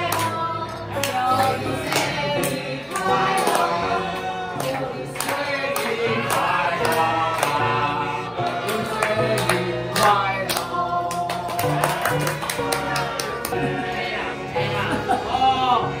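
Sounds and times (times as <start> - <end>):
people clapping along: 0.0 - 14.3
group singing: 0.0 - 16.0.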